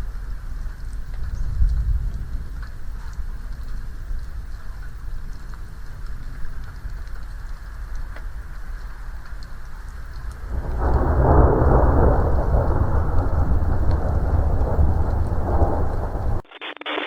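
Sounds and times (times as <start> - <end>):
thunder rumbling: 0.0 - 16.5
rain falling: 0.0 - 17.0.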